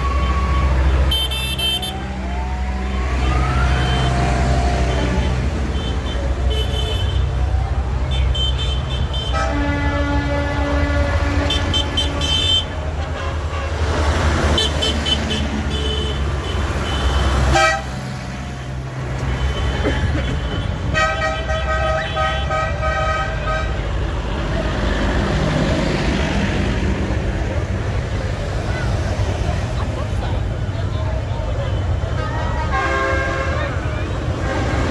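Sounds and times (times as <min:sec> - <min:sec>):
tractor horns tooting: 0:00.0 - 0:25.1, 0:31.5 - 0:34.9
tractor engines rumbling: 0:00.0 - 0:34.9.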